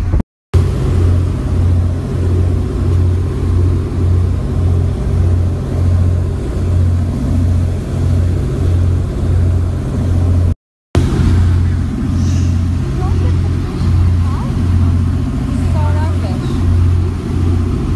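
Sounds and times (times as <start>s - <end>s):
boat engine humming: 0.0s - 17.9s.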